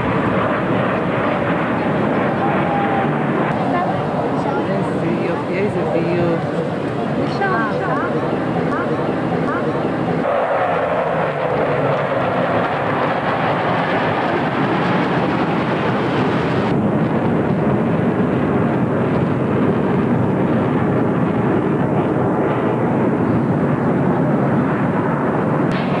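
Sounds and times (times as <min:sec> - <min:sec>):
fighter jets flying over: 0:00.0 - 0:26.0.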